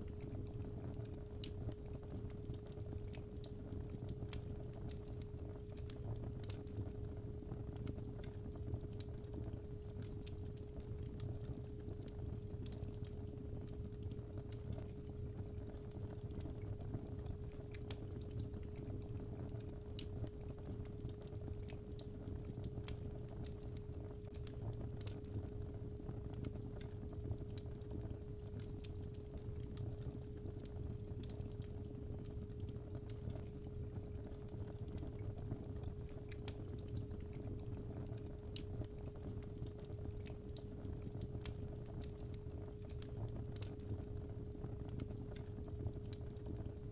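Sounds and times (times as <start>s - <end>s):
fireplace fire crackling: 0.0s - 46.9s.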